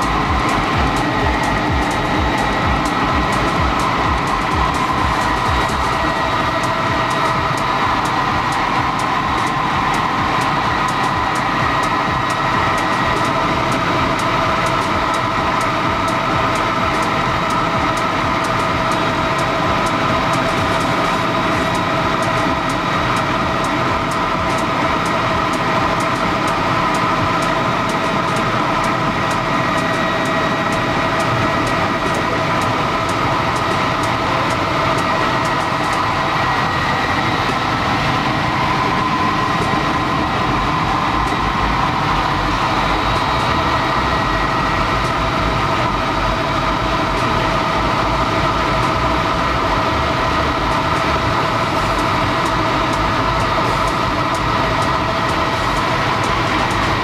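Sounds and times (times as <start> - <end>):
helicopter engine and rotor din: 0.0 - 57.0
high whining tones: 0.0 - 57.0.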